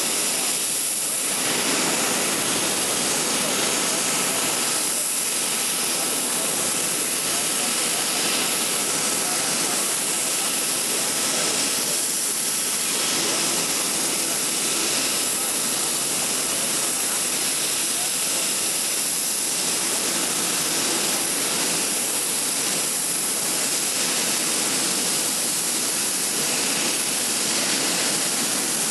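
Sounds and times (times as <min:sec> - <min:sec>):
jet engines rushing: 0:00.0 - 0:28.9.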